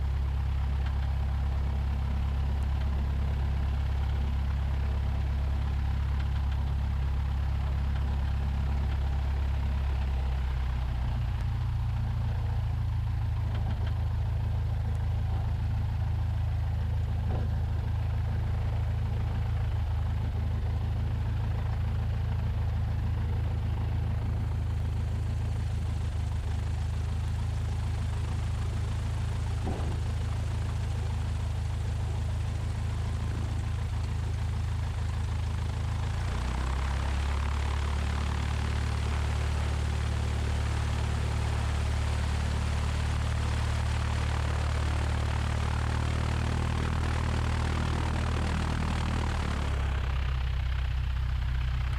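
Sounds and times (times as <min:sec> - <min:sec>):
airplane engine and propeller drone: 0:00.0 - 0:51.9.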